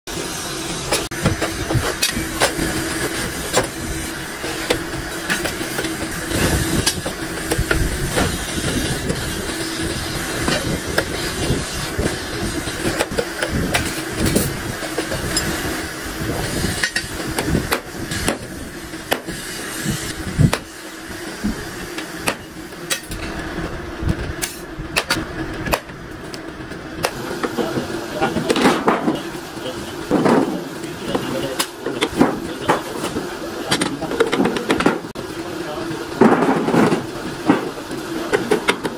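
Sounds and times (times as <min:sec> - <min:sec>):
steady hum: 0:00.1 - 0:38.9
workshop noise: 0:00.1 - 0:38.9.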